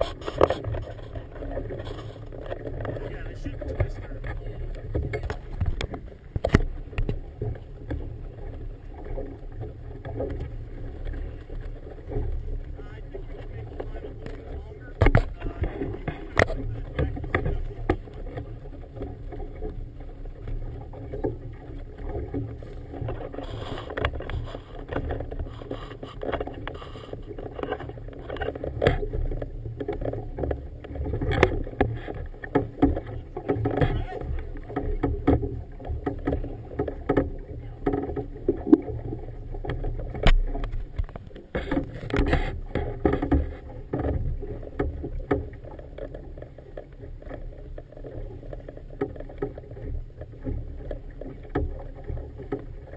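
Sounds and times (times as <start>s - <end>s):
knocks and splashes: 0.0s - 52.9s
water slapping against boat: 0.0s - 52.9s.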